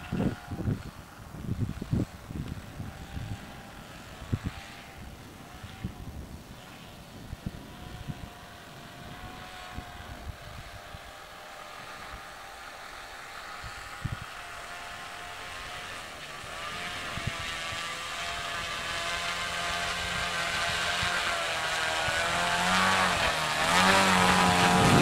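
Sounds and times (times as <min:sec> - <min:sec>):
model propeller motor running: 0:00.0 - 0:25.0.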